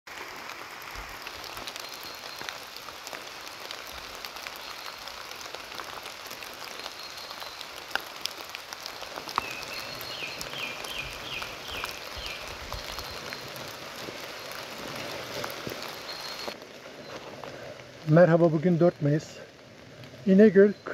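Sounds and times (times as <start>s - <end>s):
louder raindrops hitting close: 0.1s - 20.9s
rain falling on leaves: 0.1s - 20.9s.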